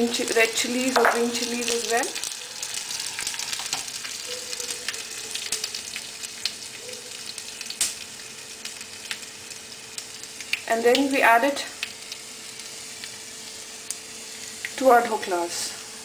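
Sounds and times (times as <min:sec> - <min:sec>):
seeds sizzling in hot oil: 0:00.0 - 0:16.0.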